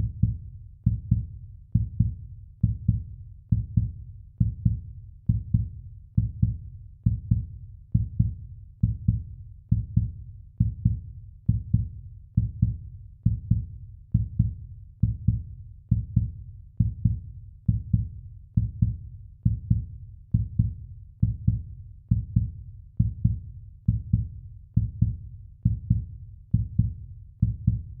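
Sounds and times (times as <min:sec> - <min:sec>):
heartbeat thumps: 0:00.0 - 0:28.0.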